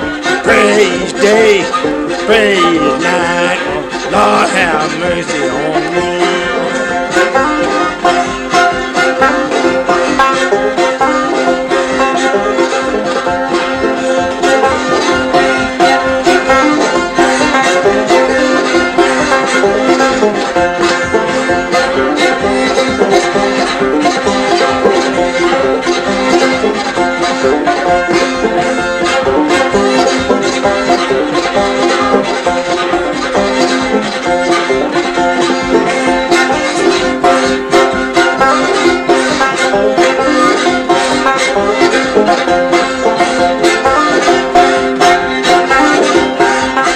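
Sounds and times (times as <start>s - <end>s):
banjo plucking quick runs: 0.0s - 46.9s.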